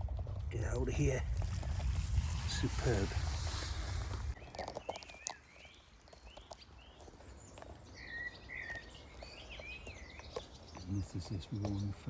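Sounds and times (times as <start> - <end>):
footsteps through undergrowth: 0.0 - 11.2
small birds chirping: 0.0 - 12.0.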